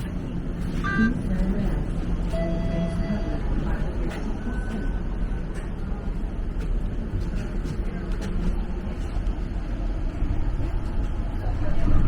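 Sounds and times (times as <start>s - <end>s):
streetcar interior rumble: 0.0s - 12.0s.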